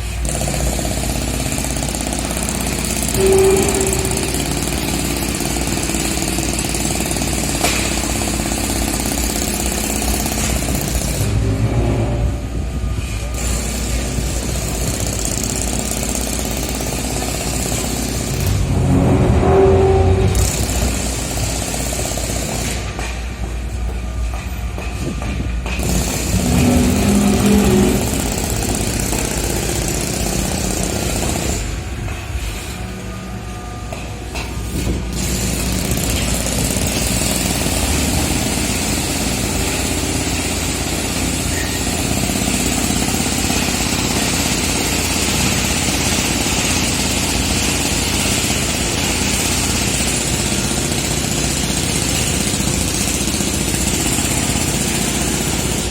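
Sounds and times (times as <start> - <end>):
heavy construction machinery engine: 0.0 - 55.9.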